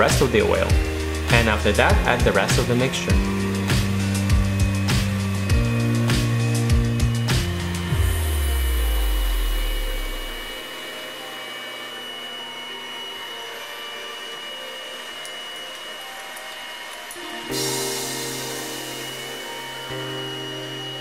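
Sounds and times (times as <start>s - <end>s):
electric hand mixer whisking: 0.0s - 21.0s
low background music tone: 0.0s - 21.0s.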